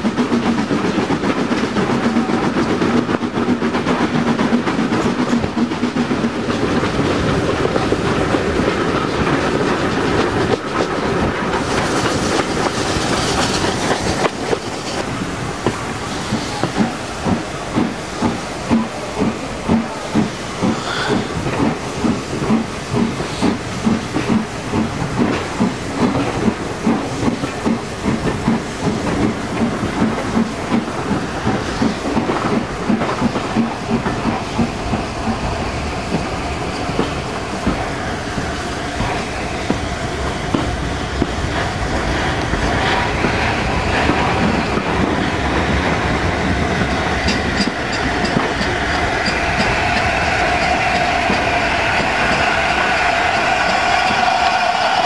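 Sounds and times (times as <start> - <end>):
train running rush: 0.0 - 55.0
wheels clickety-clack over rail joints: 0.0 - 55.0.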